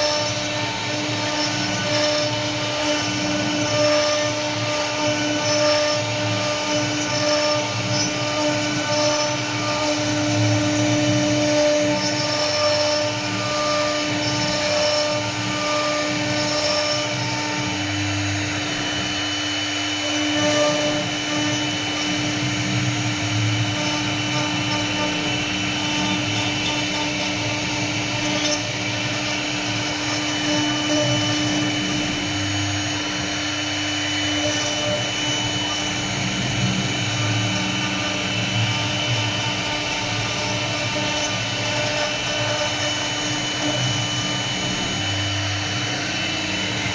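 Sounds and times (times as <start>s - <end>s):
bit cutting wood: 0.0s - 46.9s
router spindle whine: 0.0s - 46.9s.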